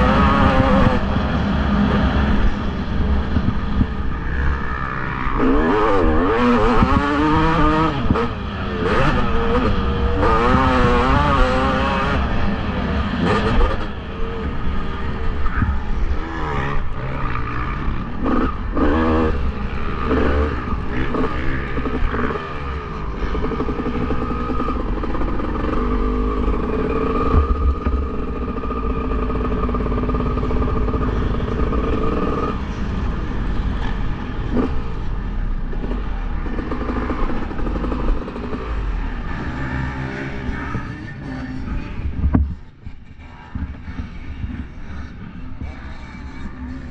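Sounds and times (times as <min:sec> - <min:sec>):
motocross bike engines revving: 0:00.0 - 0:46.9.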